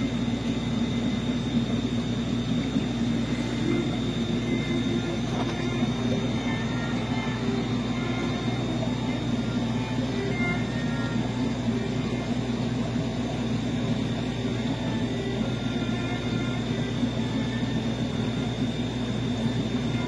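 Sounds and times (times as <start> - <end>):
constant high whine: 0.0 - 20.0
machine hum and hiss: 0.0 - 20.0.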